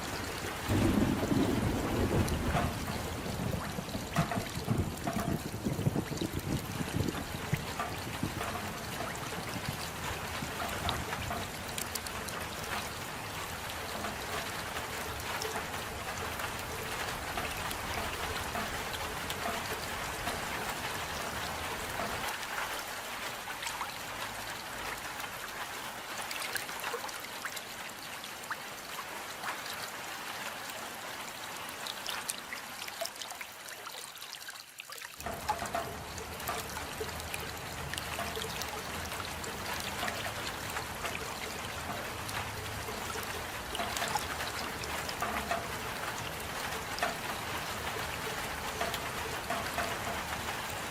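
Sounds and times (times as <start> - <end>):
rain pattering: 0.0 - 50.9
trickling runoff water: 0.0 - 50.9.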